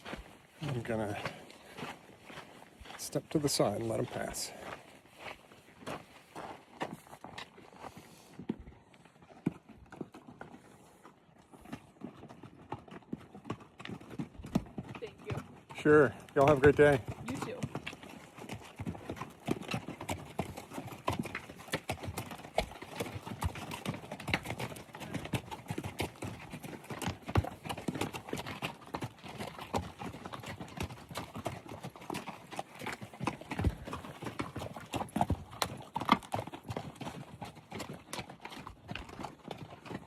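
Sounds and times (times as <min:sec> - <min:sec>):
mule hooves clopping: 0:00.0 - 0:40.0.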